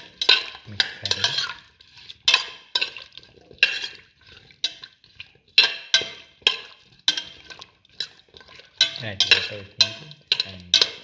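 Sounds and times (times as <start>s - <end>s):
spoon scraping metal pot: 0.0s - 11.0s.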